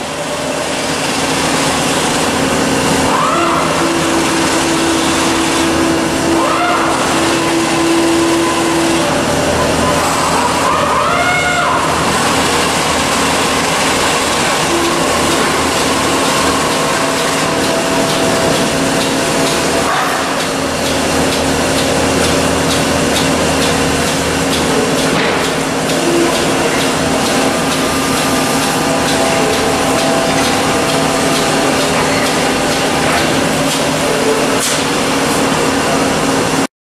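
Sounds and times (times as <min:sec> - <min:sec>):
lathe machine whirring: 0:00.0 - 0:36.7.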